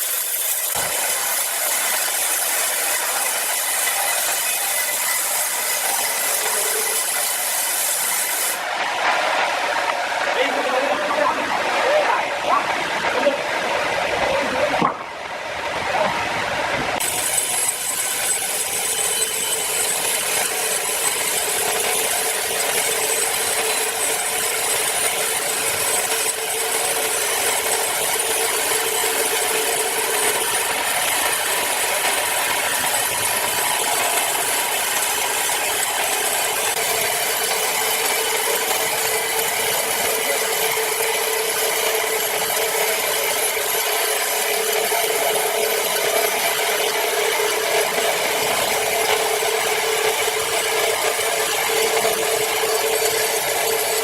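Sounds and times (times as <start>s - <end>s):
power saw cutting log: 0.0s - 54.0s.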